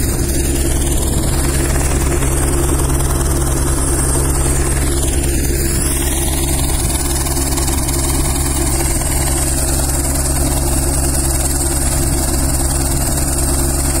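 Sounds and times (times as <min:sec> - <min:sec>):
constant high whine: 0:00.0 - 0:14.0
helicopter engine and rotor drone: 0:00.0 - 0:14.0.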